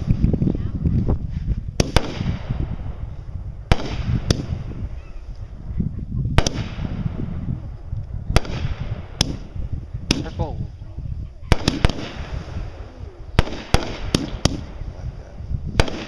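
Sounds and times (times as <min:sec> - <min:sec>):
fireworks bangs: 0:00.0 - 0:05.7, 0:06.3 - 0:16.0
low rumble: 0:00.0 - 0:16.0.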